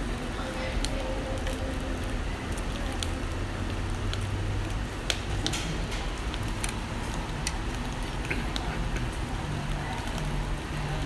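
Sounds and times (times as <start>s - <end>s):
fish sizzling on grill: 0.0s - 11.0s
low steady hum: 0.0s - 11.0s
sharp crackles and pops: 0.0s - 11.0s.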